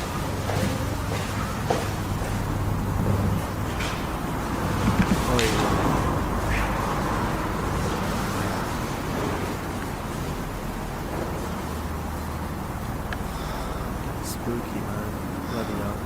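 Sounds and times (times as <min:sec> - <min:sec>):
rumbling hiss of field recording: 0:00.0 - 0:16.0.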